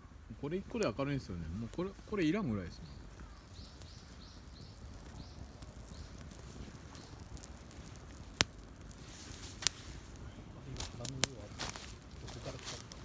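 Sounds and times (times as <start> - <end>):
campfire hissing: 0.0 - 13.0
campfire pops: 0.3 - 13.0.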